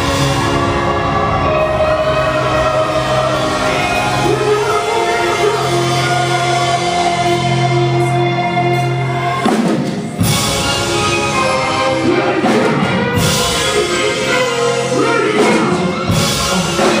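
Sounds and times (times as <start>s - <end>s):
live concert music with singing: 0.0s - 17.0s.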